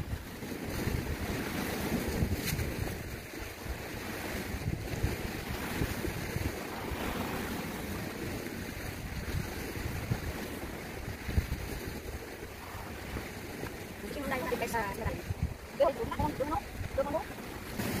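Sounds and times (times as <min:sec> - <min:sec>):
waves breaking on rocks: 0:00.0 - 0:18.0
wind buffeting microphone: 0:00.0 - 0:18.0.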